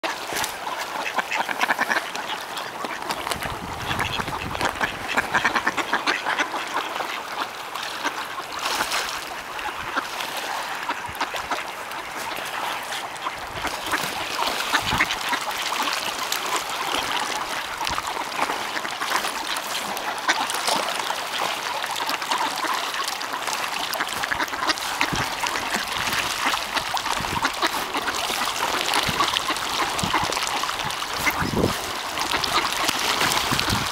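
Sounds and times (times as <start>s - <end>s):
ducks quacking: 0.0s - 33.9s
ducks splashing on water: 0.0s - 33.9s.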